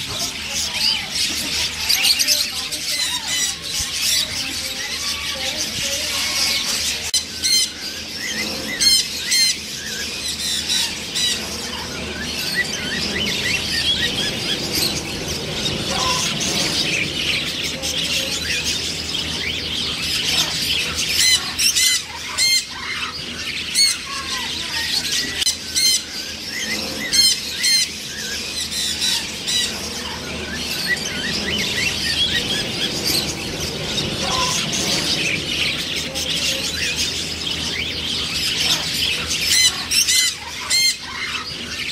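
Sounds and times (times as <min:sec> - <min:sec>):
bird chatter: 0:00.0 - 0:41.9
macaws squawking: 0:00.0 - 0:41.9.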